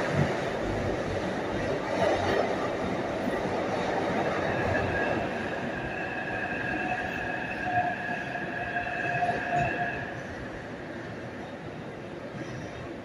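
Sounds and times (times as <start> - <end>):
high train whine: 0.0 - 13.0
train rumble in tunnel: 0.0 - 13.0.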